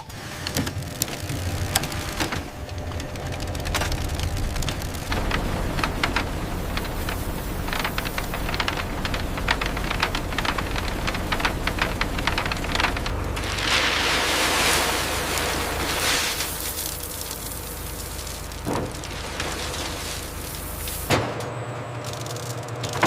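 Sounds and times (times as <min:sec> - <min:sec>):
small stones clattering: 0:00.8 - 0:21.1.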